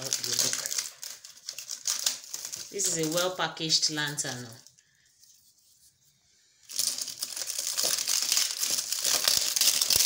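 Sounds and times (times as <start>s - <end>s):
plastic packaging crinkling: 0.0s - 5.8s, 6.6s - 10.0s.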